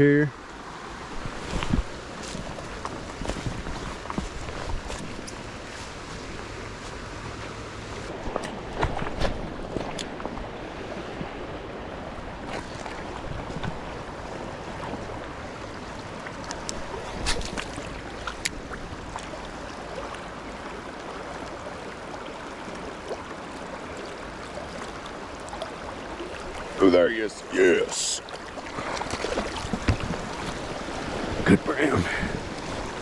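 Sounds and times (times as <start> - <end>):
river water flowing over rocks: 0.0 - 33.0.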